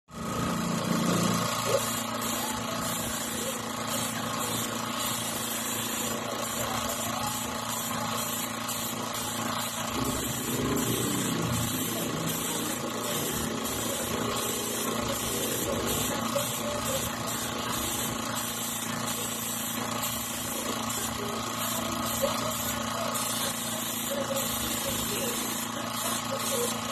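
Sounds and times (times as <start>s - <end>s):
air compressor humming: 0.0s - 26.9s.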